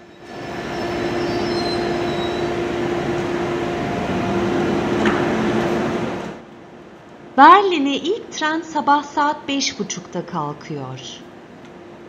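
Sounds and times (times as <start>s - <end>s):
electric train hum: 0.0s - 12.0s.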